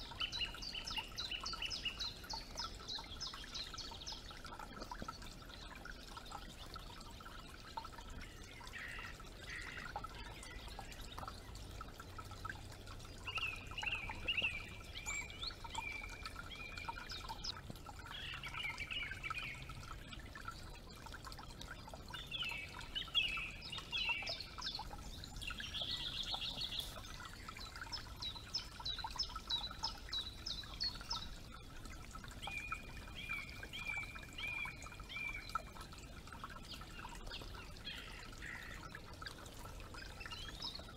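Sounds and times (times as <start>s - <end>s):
creek trickling: 0.0s - 40.9s
songbirds trilling: 7.8s - 40.9s.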